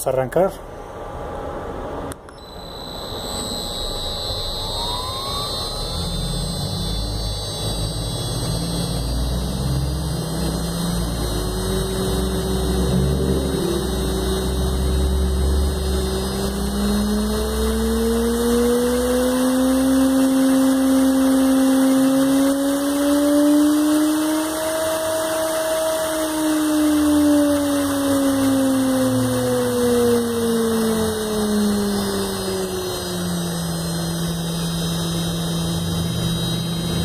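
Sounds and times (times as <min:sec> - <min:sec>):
spindle motor hum and rising whine: 0:00.0 - 0:37.0.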